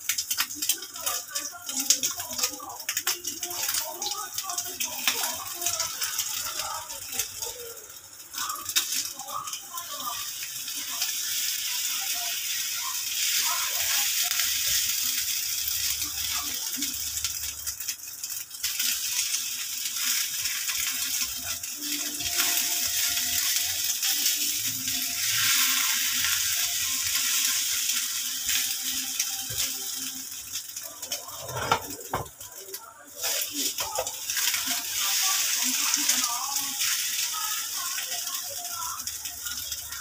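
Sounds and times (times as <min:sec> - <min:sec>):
omelette sizzling in oil: 0:00.0 - 0:40.0.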